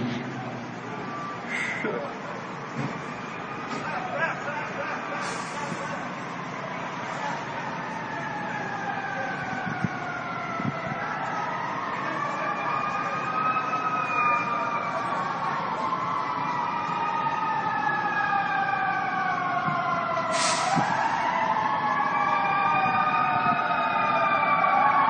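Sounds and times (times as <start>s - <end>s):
fire truck sirens wailing: 0.0s - 25.0s.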